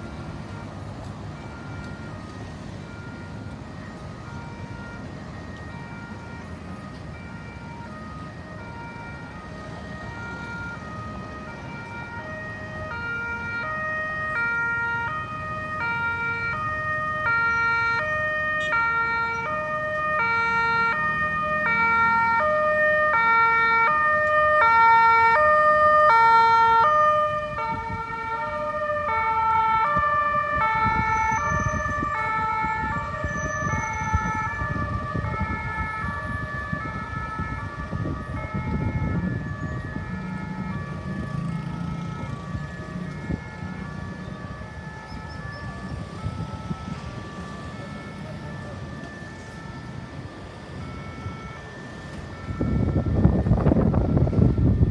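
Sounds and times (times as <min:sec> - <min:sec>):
low road rumble: 0:00.0 - 0:54.9
two-tone ambulance siren: 0:00.0 - 0:54.9.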